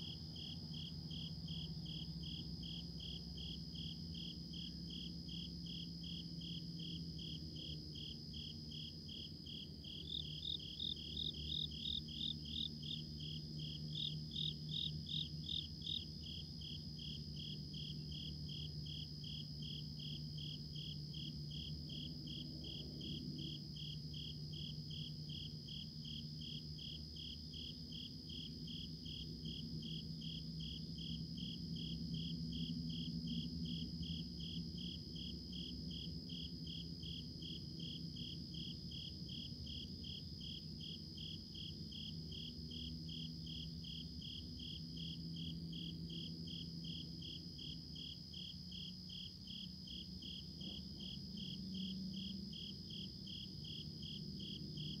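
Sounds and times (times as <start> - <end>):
continuous insect trill: 0.0 - 55.0
crickets chirping: 0.0 - 55.0.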